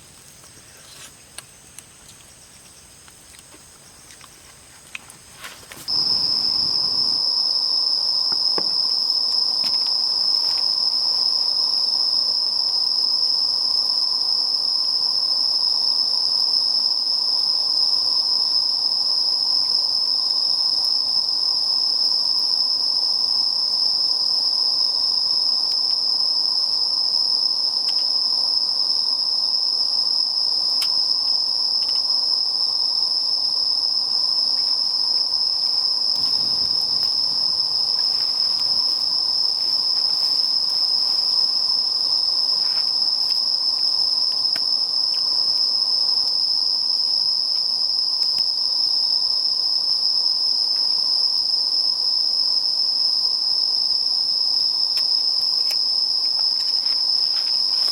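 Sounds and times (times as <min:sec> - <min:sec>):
insects chorus: 0:00.0 - 0:57.9.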